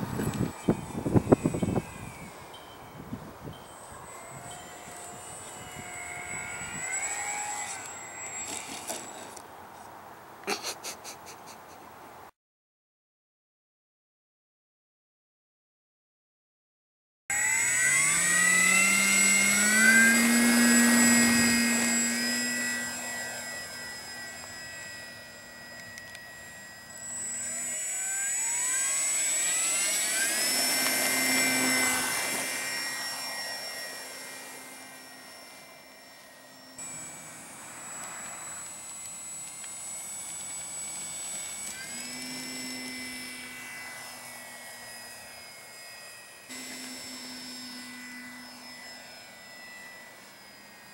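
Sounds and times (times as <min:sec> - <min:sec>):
model plane motor whining: 0:00.0 - 0:09.5, 0:17.3 - 0:50.9.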